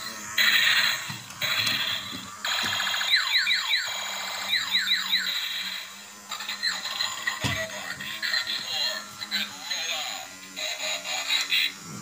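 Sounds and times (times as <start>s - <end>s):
electronic buzzing tone: 0.0s - 12.0s
toy crackly noise bursts: 0.0s - 12.0s.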